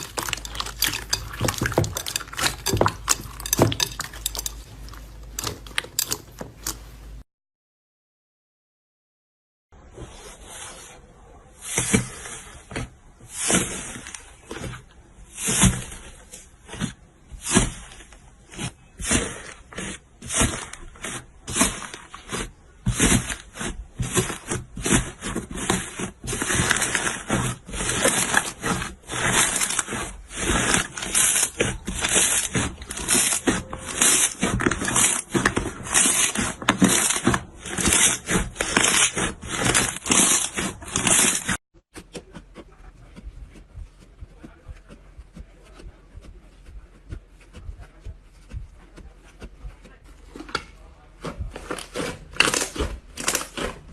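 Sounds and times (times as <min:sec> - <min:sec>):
slime squishing by hand: 0:00.0 - 0:07.2, 0:11.6 - 0:53.9.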